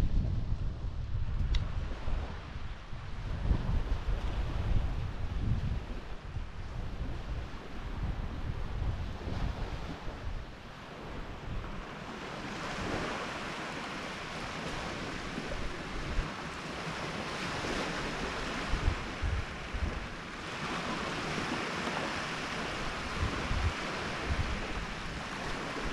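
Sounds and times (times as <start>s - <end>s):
wind blowing across microphone: 0.0s - 25.9s.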